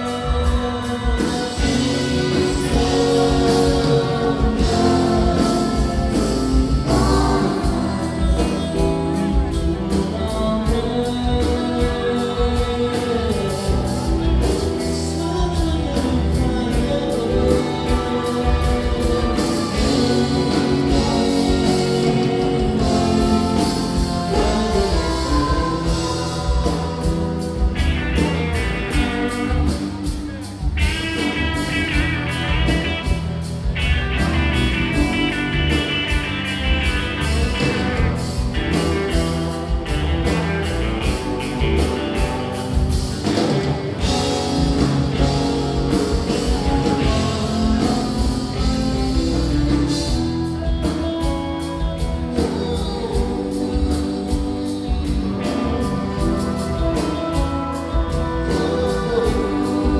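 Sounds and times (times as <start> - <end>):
drums: 0.0 - 59.9
electric guitar: 0.0 - 59.9
high guitar line: 0.0 - 59.9
person singing: 0.0 - 59.9.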